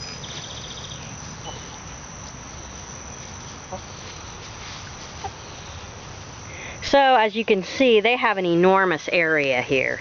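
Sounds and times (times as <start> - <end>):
fast insect trill: 0.0 - 10.0
insects chirring in grass: 0.0 - 10.0.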